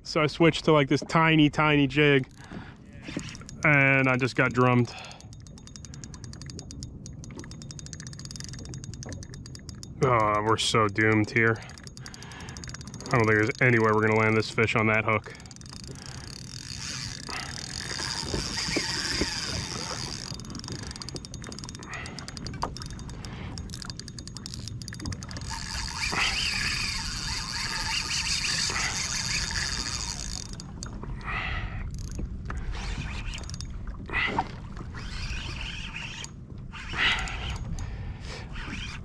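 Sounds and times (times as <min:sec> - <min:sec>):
fishing reel drag buzzing: 0:02.2 - 0:39.0.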